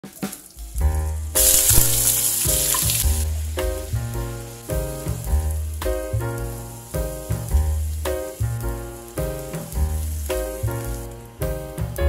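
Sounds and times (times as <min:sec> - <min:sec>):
food sizzling in a wok: 0:00.0 - 0:12.0
background music with bass: 0:00.1 - 0:12.0.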